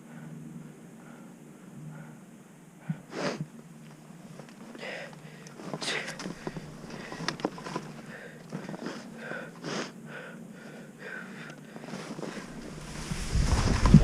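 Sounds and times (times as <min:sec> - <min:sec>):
person breathing hard with wheeze: 0:00.0 - 0:03.5, 0:04.7 - 0:13.0.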